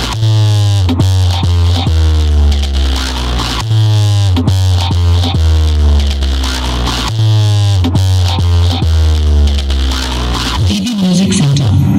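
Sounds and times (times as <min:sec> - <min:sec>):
electronic dance music with bass: 0:00.0 - 0:11.9.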